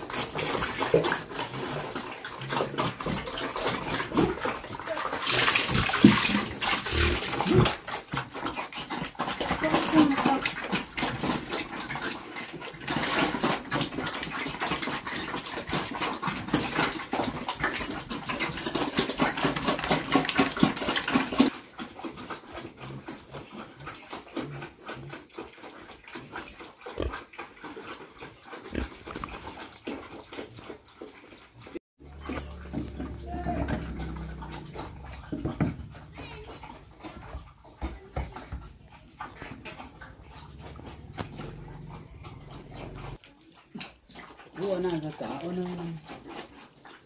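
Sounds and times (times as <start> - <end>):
pigs chomping and slurping: 0.0 - 47.0.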